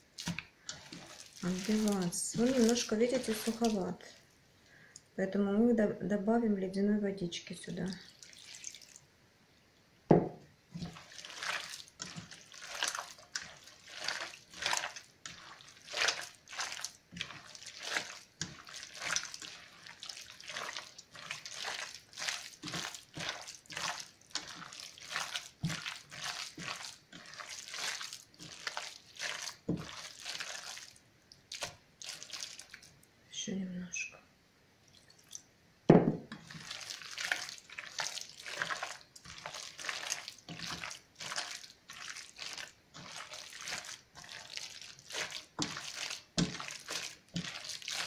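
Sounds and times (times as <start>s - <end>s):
hands squelching wet mince: 0.0s - 4.2s, 7.9s - 9.0s, 10.8s - 33.0s, 36.3s - 48.0s.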